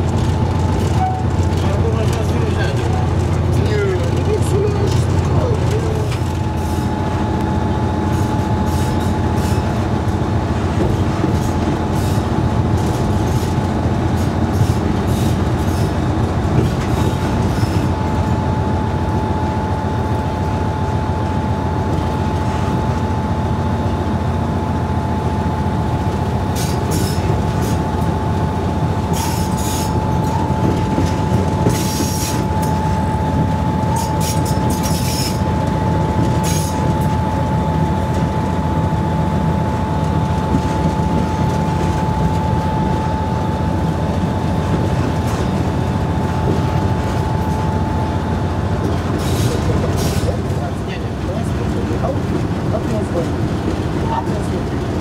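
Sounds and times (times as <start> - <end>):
wheels clicking on track: 0.0 - 19.2, 20.0 - 55.0
locomotive engine drone: 0.0 - 55.0.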